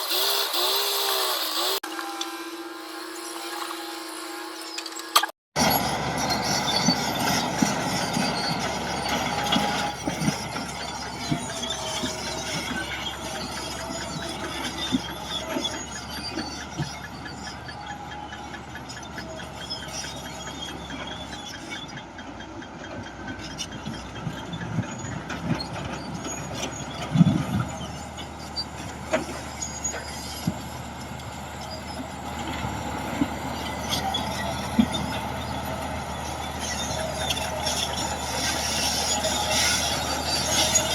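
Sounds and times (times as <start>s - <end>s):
wavering squeal: 0.0s - 22.1s, 23.4s - 40.9s
diesel engines under load: 0.0s - 40.9s.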